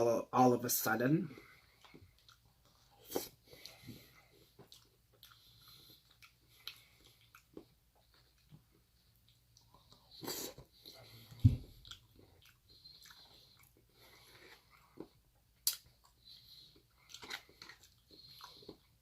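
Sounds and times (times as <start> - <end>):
person chewing food: 1.3 - 19.0.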